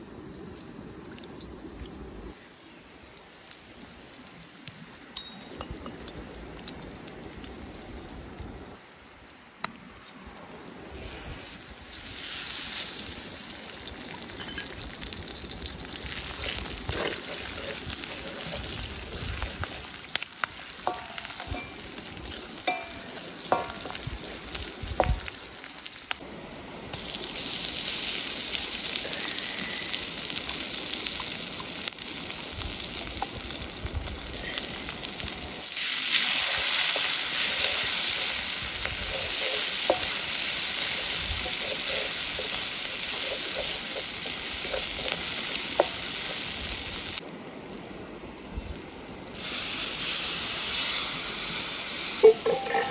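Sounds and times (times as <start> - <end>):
food sizzling in oil: 2.6 - 26.2, 26.9 - 47.2, 49.3 - 52.9.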